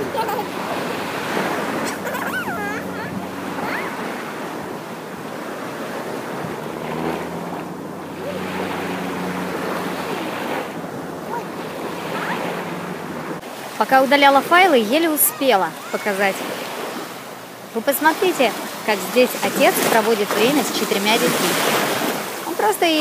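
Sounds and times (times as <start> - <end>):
small waves washing on shore: 0.0 - 23.0
wind buffeting microphone: 0.0 - 23.0.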